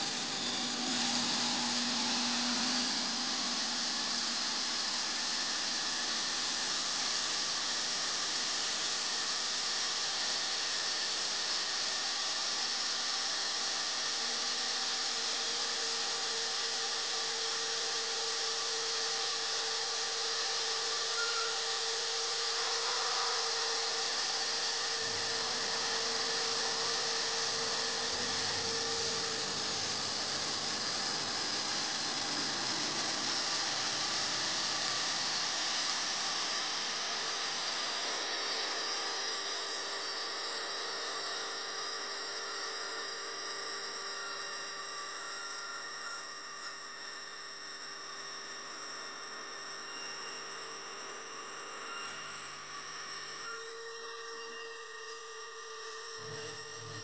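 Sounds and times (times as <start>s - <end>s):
electric drill running: 0.0s - 47.3s, 48.0s - 57.0s.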